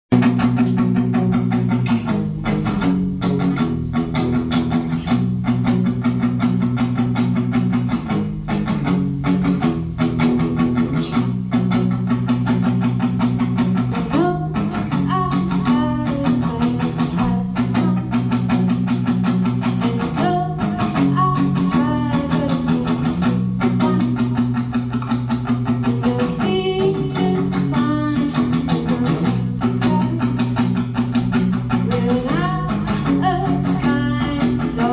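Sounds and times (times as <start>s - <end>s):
bass guitar: 0.0s - 34.9s
drums keeping a beat: 0.1s - 34.9s
electric guitar: 0.1s - 34.9s.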